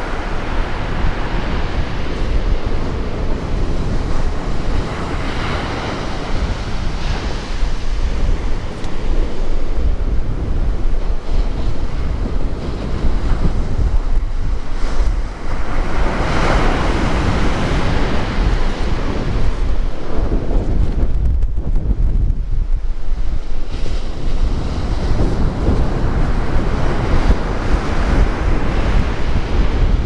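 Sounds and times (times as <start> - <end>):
surf breaking on shore: 0.0 - 30.0
wind buffeting microphone: 0.0 - 30.0.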